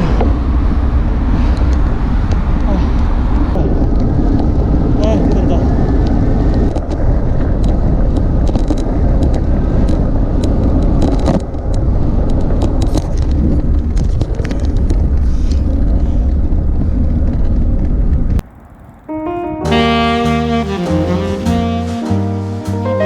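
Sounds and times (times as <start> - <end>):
wind rushing over microphone: 0.0 - 20.1.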